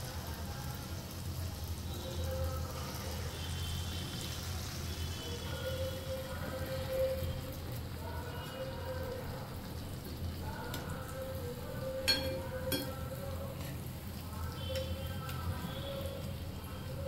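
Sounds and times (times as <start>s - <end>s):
fritters sizzling in hot oil: 0.0s - 17.0s.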